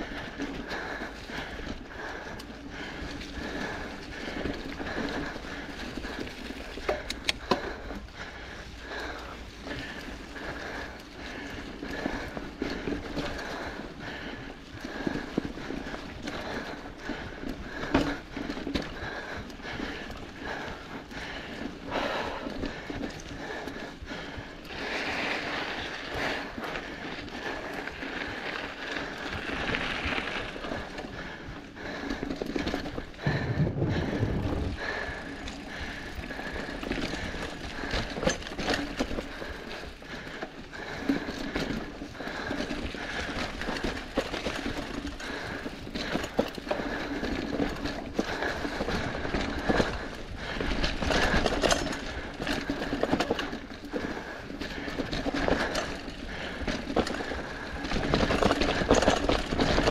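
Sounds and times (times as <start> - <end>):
bike rattling over bumps: 0.0 - 59.9.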